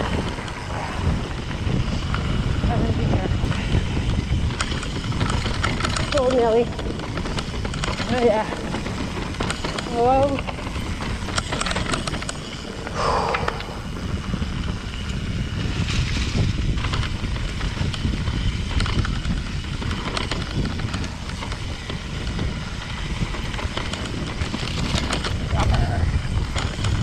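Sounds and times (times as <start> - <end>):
bike tyres rolling over dirt: 0.0 - 12.8, 14.2 - 27.0
bike rattling and knocking: 0.0 - 12.9, 14.1 - 27.0
wind rumbling on microphone: 0.0 - 27.0.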